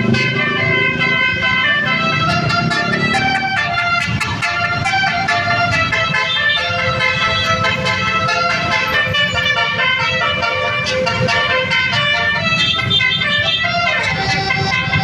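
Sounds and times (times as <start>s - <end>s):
musical bus horn tune: 0.0s - 15.0s.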